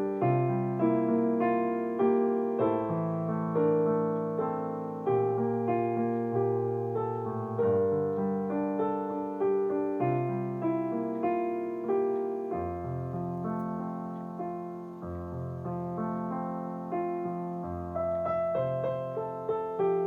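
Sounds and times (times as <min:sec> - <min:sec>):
slow solo piano music: 0:00.0 - 0:20.0.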